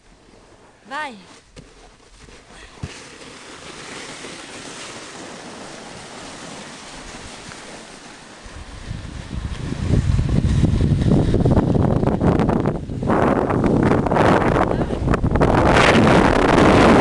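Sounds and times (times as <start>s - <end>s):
sled sliding on snow: 0.0s - 17.0s
wind buffeting microphone: 2.8s - 17.0s.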